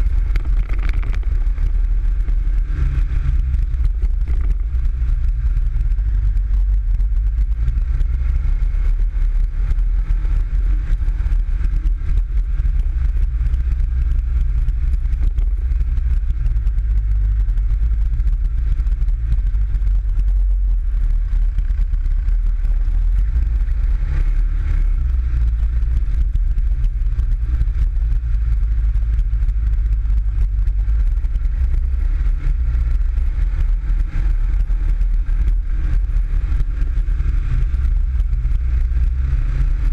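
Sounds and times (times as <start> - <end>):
buggy engine rumbling: 0.0 - 39.9.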